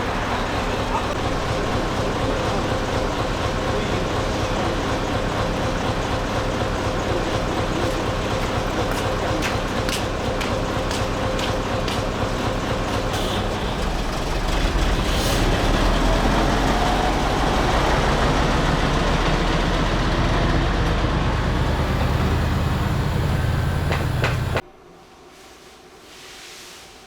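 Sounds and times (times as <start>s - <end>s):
truck diesel engine rumbling: 0.0s - 24.6s.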